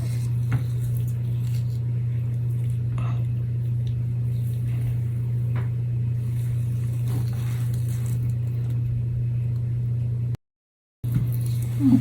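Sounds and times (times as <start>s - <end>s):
steady low hum: 0.0s - 10.4s, 11.0s - 12.0s.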